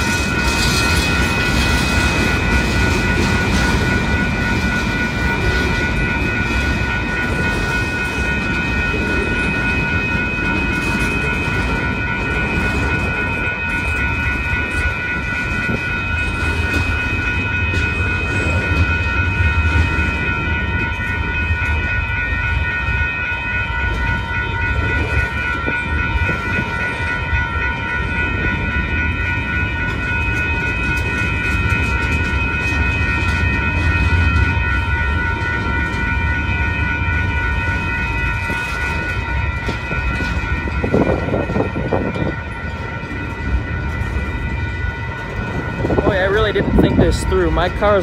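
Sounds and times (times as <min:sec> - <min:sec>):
freight train wheels rumbling: 0:00.0 - 0:48.0
high ringing tones: 0:00.0 - 0:48.0.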